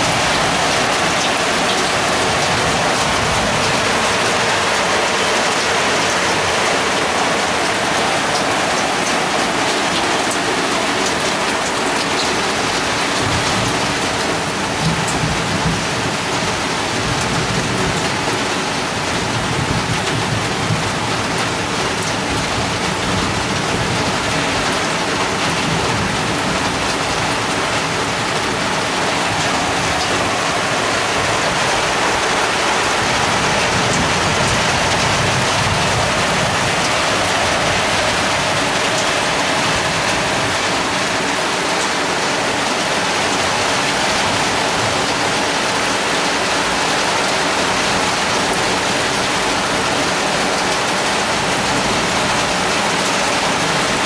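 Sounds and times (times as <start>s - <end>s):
heavy rain falling: 0.0s - 54.0s
water dripping off roof: 0.0s - 54.0s.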